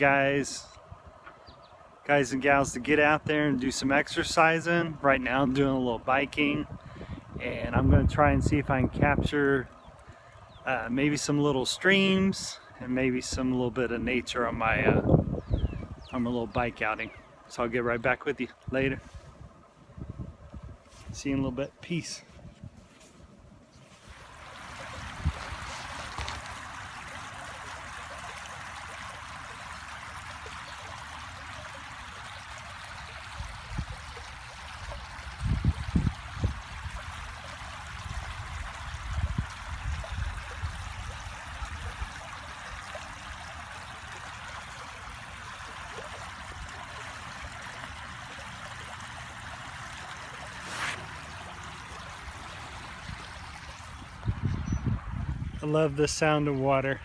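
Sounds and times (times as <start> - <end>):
stream of running water: 0.0 - 57.0.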